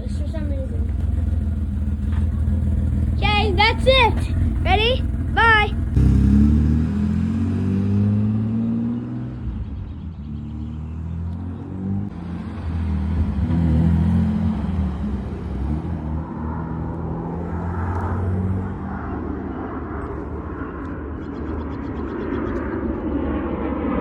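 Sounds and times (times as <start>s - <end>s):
loud car exhaust driving away: 0.0s - 20.6s.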